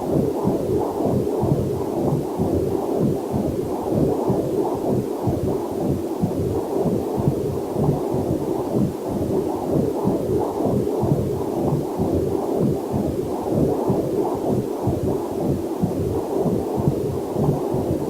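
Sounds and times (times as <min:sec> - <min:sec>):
fetal heartbeat whooshing pulse: 0:00.0 - 0:18.0.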